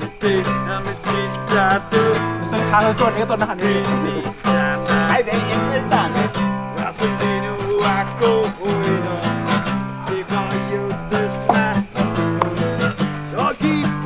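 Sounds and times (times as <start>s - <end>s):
strummed acoustic guitar music: 0.0s - 14.0s.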